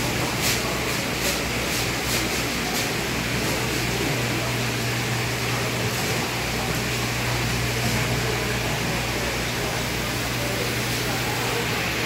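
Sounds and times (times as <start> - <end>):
pump hum: 0.0 - 12.0.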